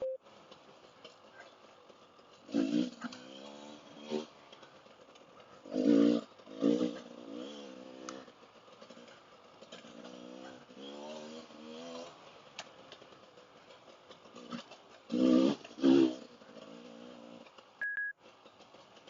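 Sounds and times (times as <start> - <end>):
motorcycle engine revving: 0.3 - 19.0.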